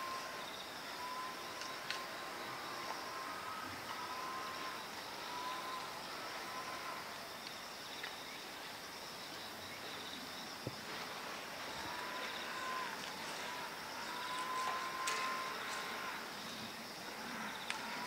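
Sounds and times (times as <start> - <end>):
insects chirping: 0.0 - 18.0
steady hiss: 0.0 - 18.0.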